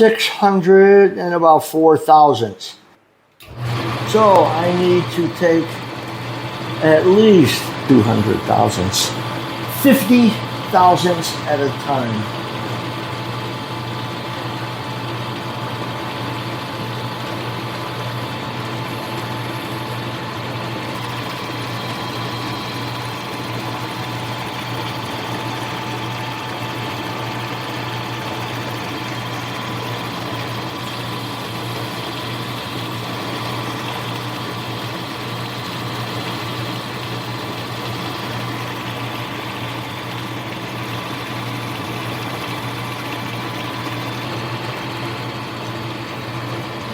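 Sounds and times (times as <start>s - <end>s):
lathe motor and gear hum: 3.4s - 46.9s.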